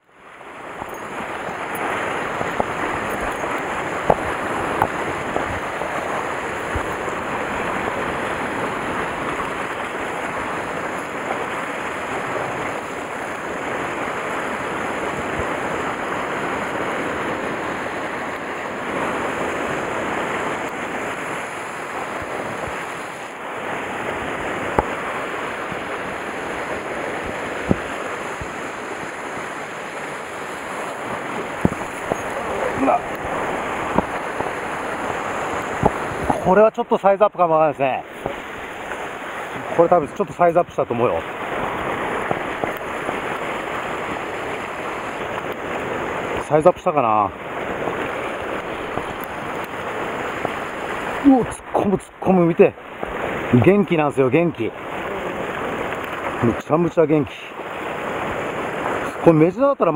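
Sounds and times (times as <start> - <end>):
surf breaking on rocks: 0.0 - 59.9.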